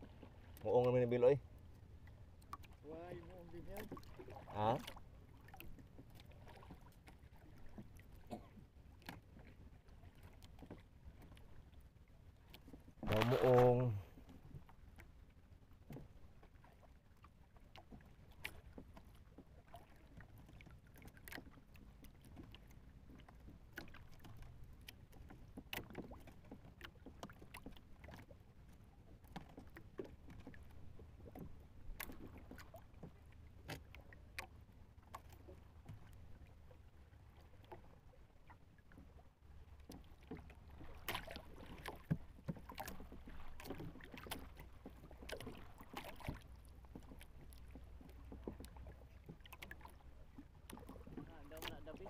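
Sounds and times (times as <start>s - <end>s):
water lapping against hull: 0.0s - 52.0s.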